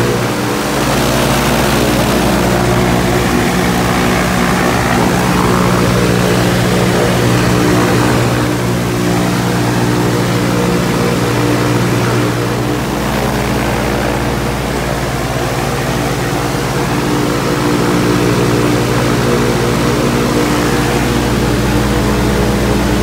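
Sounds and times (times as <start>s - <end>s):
aircraft engine running: 0.0s - 23.0s.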